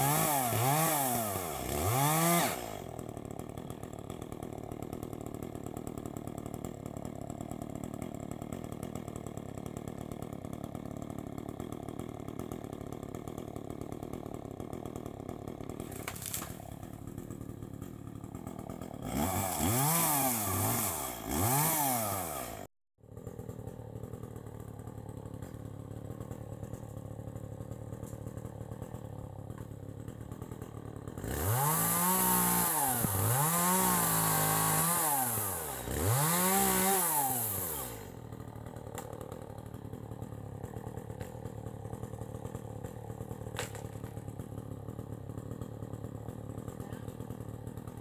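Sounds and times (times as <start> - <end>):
chainsaw idling and revving: 0.0 - 48.0.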